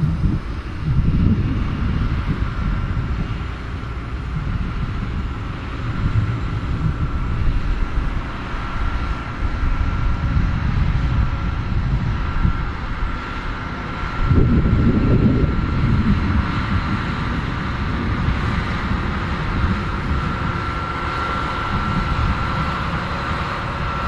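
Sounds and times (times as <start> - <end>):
farm machinery engine rumble: 0.0 - 24.0
wind buffeting microphone: 0.0 - 24.0.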